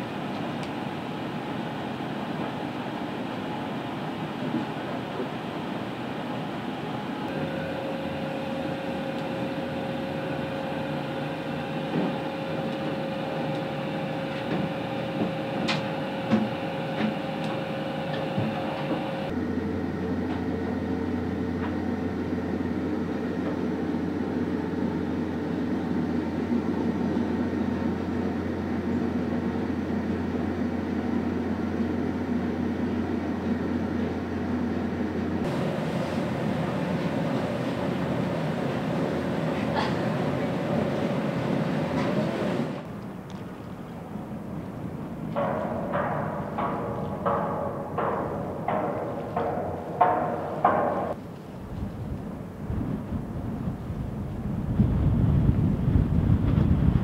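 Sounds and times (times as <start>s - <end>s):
machinery and ventilation hum: 0.0s - 57.0s.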